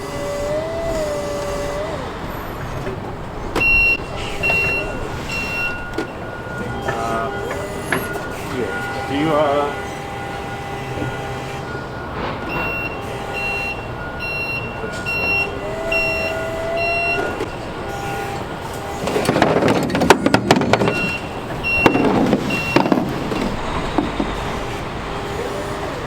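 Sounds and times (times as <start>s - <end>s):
machine running: 0.0s - 26.0s
reversing alarm beeping: 0.0s - 26.0s.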